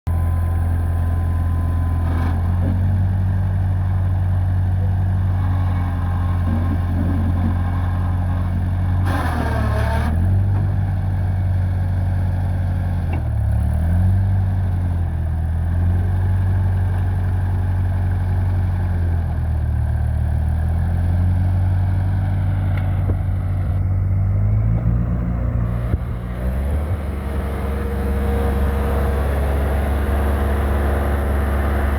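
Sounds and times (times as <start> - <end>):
tractor engine running: 0.1 - 31.9.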